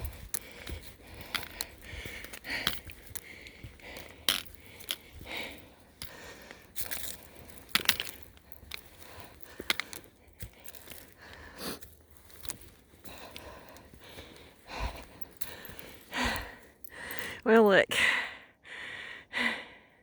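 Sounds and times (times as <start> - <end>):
footsteps crunching on rocky trail: 0.0 - 17.3
person breathing hard: 0.0 - 20.0.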